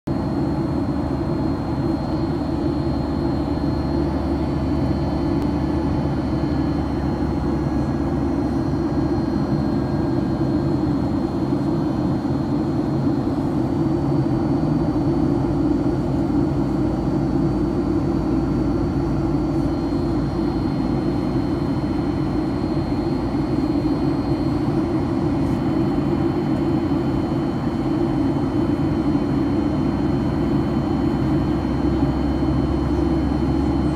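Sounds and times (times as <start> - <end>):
airliner cabin engine noise: 0.1 - 33.9
faint high whine: 0.1 - 33.9.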